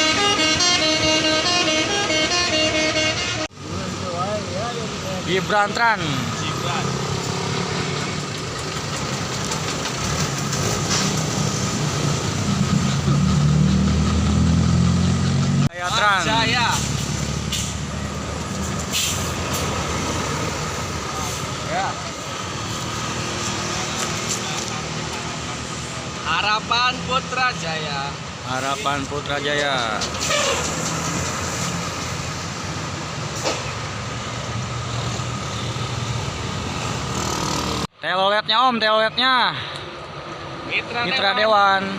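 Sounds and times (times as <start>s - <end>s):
bus diesel engine: 0.0s - 38.0s
traffic noise: 0.0s - 41.9s.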